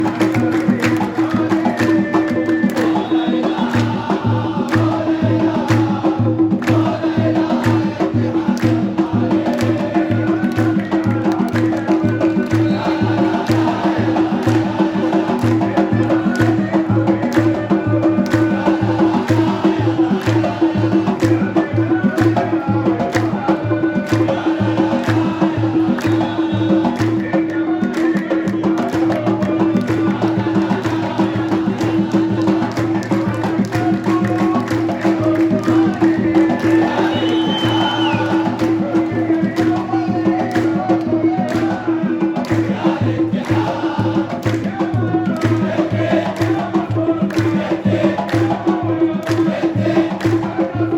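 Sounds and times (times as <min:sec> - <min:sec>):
drums beating: 0:00.0 - 0:50.9
voices joining in: 0:00.0 - 0:50.9.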